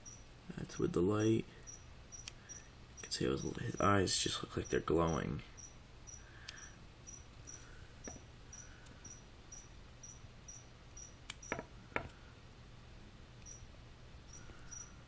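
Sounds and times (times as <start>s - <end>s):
cricket chirping: 0.0s - 0.9s, 1.6s - 11.7s, 13.4s - 15.0s.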